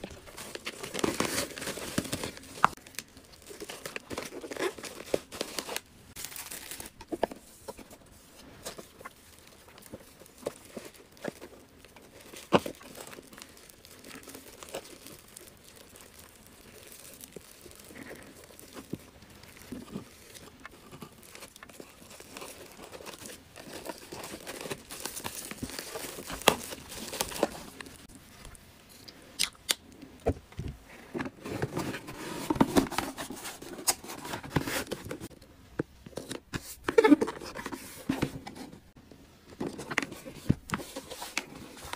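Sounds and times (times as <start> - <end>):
plastic and paper crinkling: 0.0 - 28.6, 30.2 - 41.9.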